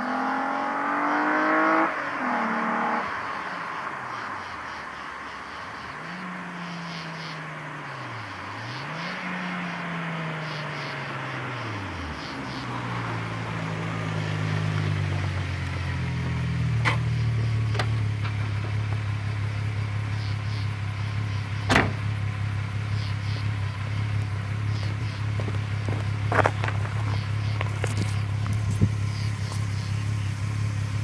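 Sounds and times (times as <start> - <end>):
car engine and exhaust droning: 0.0 - 31.0.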